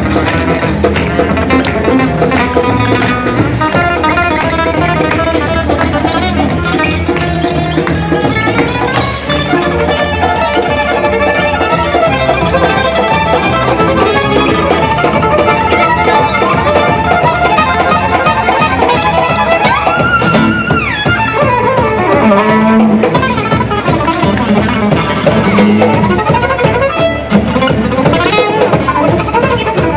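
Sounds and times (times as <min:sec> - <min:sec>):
fast fiddle music: 0:00.0 - 0:29.9
guitar accompaniment: 0:00.0 - 0:29.9.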